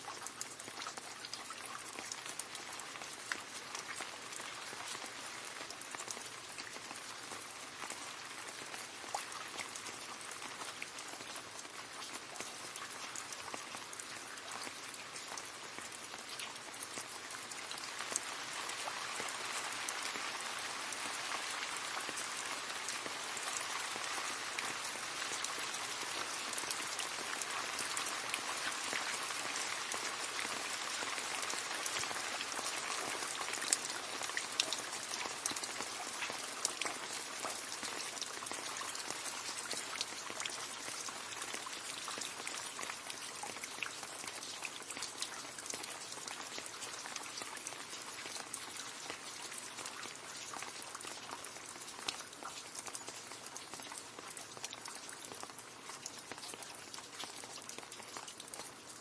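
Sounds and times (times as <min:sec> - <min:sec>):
rain dripping into puddle: 0:00.0 - 0:59.0.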